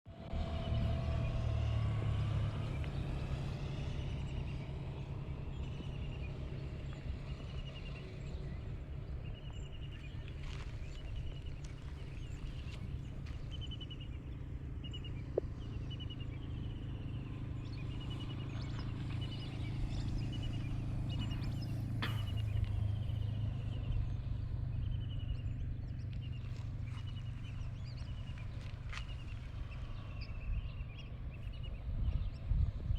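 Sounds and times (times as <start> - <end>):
car engine and road noise: 0.0 - 32.9.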